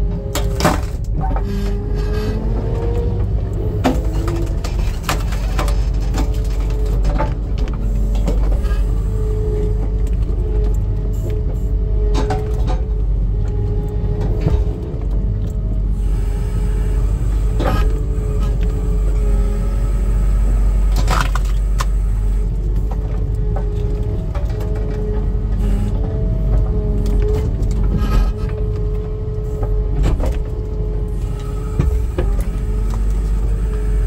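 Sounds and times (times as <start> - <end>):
skid steer engine rumbling: 0.0 - 34.0.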